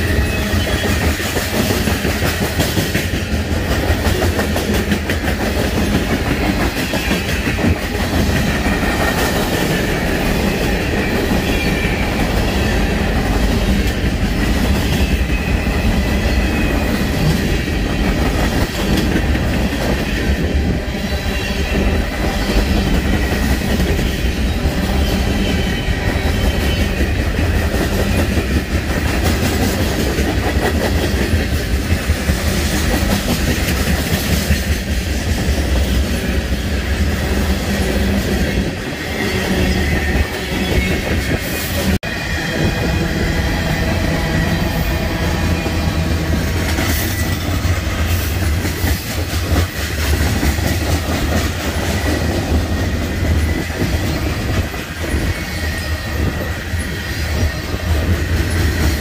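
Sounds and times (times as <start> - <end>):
freight train cars rumbling: 0.0 - 59.0.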